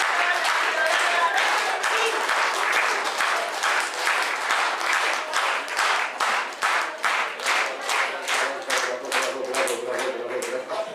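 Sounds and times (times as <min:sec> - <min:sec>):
audience clapping in rhythm: 0:00.0 - 0:10.9.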